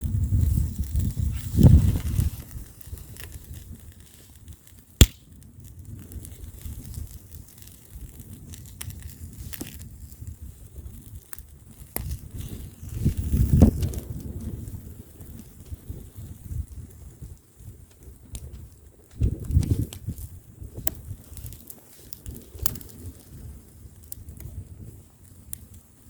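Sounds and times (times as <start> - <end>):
bonfire crackling and popping: 0.0 - 26.0
wind rumbling on microphone: 0.0 - 26.0.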